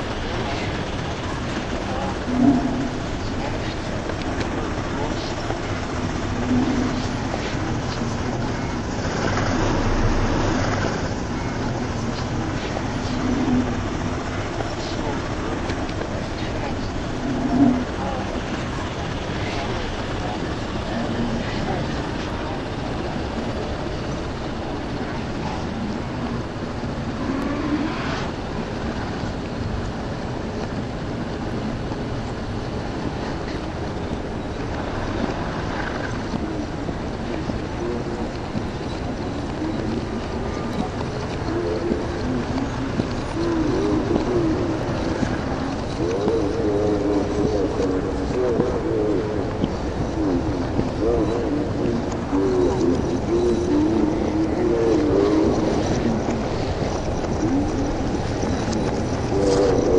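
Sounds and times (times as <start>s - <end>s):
urban traffic rumble: 0.0s - 59.9s.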